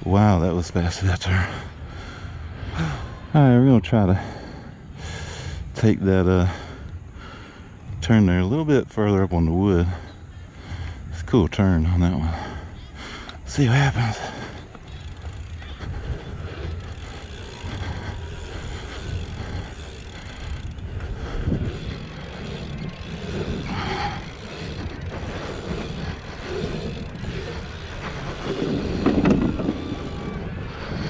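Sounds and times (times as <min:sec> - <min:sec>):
bike rolling and rattling: 0:00.0 - 0:31.0
wind rushing over microphone: 0:00.0 - 0:31.0.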